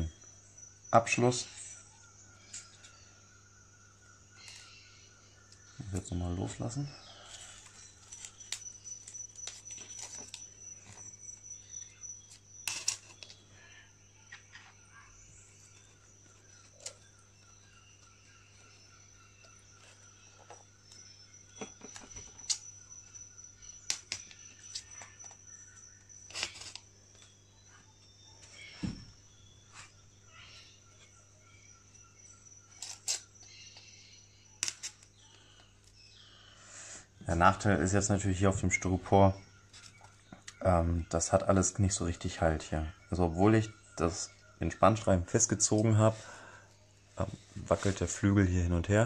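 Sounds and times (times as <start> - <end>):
faint regular chirping: 0.0 - 49.0.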